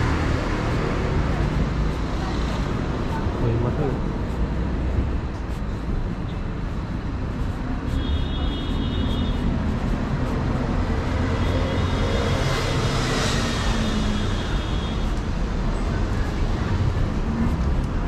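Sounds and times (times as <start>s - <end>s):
vehicle passing: 0.0s - 5.9s, 8.7s - 18.0s
city street traffic: 0.0s - 18.0s.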